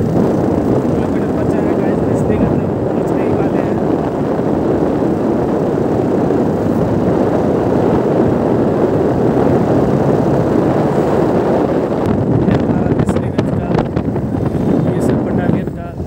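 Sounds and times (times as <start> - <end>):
motorcycle engine running: 0.0 - 16.0
road noise: 0.0 - 16.0
wind over the microphone: 0.0 - 16.0.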